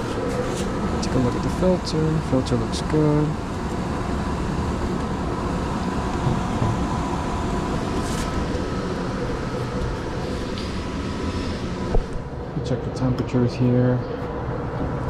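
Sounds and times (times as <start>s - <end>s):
air handler blower rushing: 0.0s - 13.1s
faint steady whine: 0.0s - 15.0s.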